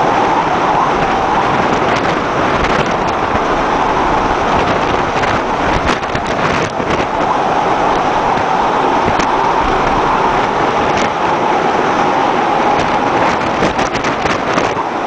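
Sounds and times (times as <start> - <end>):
heavy seas: 0.0 - 15.0
storm wind: 0.0 - 15.0.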